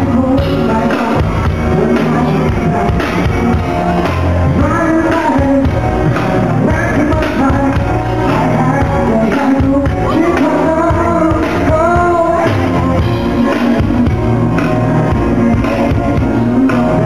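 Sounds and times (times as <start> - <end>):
man singing: 0.0 - 17.0.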